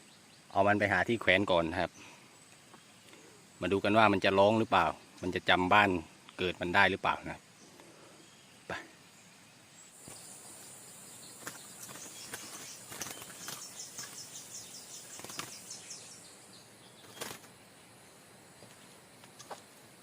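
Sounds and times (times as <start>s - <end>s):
insect buzz: 0.0s - 20.0s.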